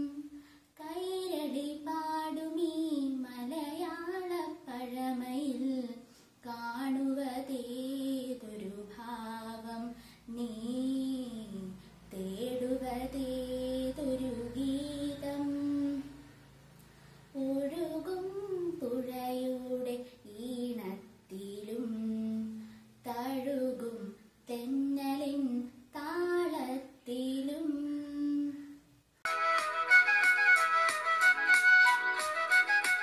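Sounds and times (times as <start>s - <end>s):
girl singing unaccompanied: 0.0s - 16.4s, 17.3s - 28.9s.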